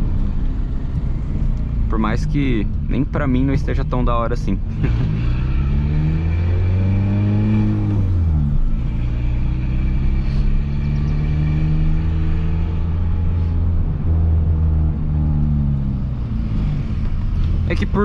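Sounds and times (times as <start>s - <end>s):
car engine revving under load: 0.0s - 18.0s.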